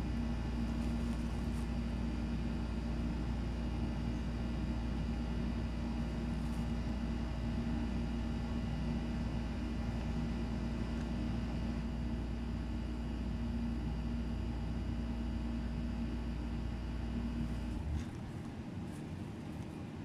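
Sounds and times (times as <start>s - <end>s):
machine hum with low drone: 0.0s - 20.0s.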